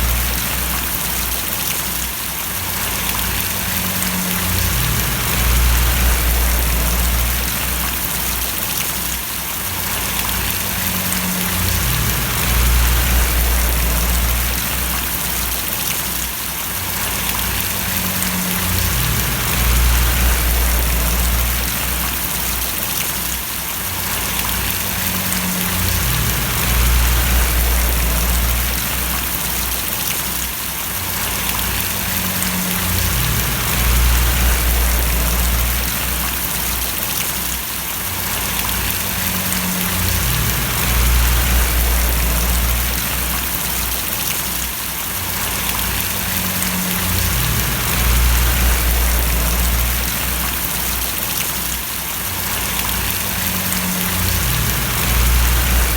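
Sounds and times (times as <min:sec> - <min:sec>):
low hum: 0:00.0 - 0:01.4, 0:02.8 - 0:08.6, 0:10.0 - 0:15.9, 0:17.0 - 0:22.8, 0:24.4 - 0:30.1, 0:31.3 - 0:37.0, 0:38.6 - 0:44.4, 0:45.5 - 0:51.4, 0:52.8 - 0:55.9
rain falling and splashing: 0:00.0 - 0:55.9.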